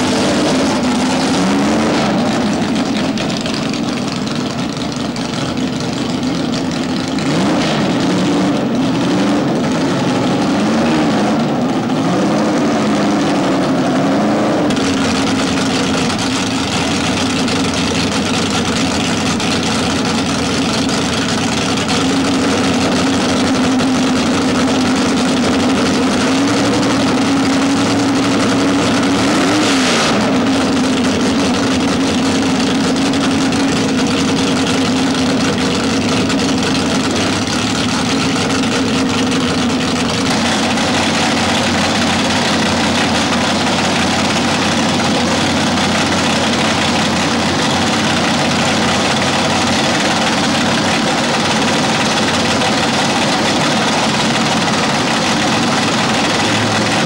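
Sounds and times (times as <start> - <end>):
engine idling: 0.0 - 57.0
hot-rod engine idling and revving: 0.0 - 57.0.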